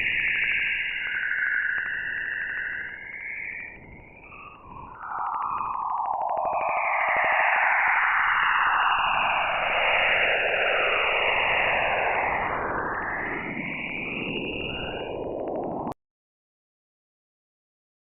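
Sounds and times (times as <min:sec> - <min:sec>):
dense hiss with sweeping noise bands: 0:00.0 - 0:16.0.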